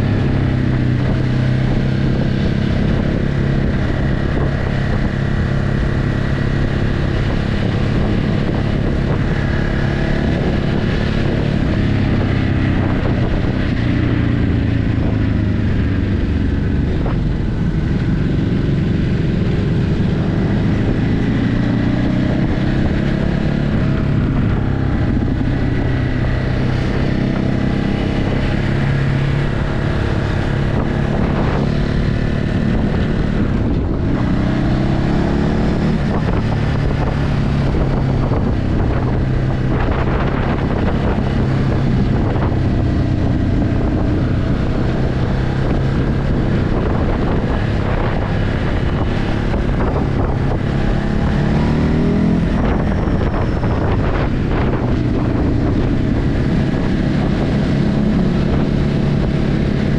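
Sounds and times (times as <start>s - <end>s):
motorcycle engine accelerating: 0.0s - 59.9s
wind rushing over microphone: 0.0s - 59.9s.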